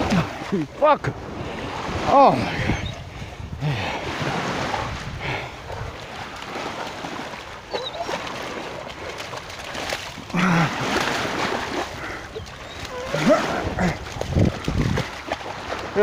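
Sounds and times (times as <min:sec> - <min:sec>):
surf washing and splashing: 0:00.0 - 0:16.0.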